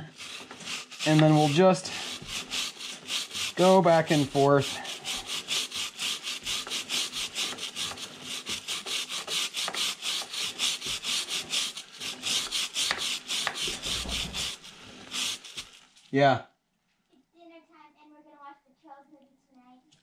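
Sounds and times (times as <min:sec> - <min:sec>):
brush scrubbing a chain: 0:00.0 - 0:16.1.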